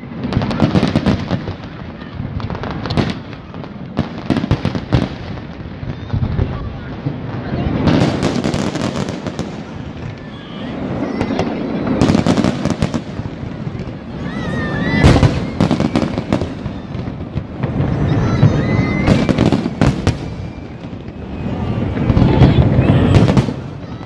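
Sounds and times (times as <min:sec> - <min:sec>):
fireworks bursting with bangs and crackle: 0:00.0 - 0:24.0.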